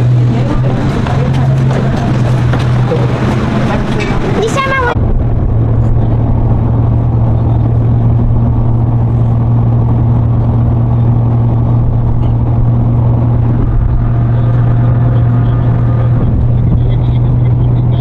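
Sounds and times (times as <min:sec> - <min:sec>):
road noise: 0:00.0 - 0:18.0
vehicle engine drone: 0:00.0 - 0:18.0.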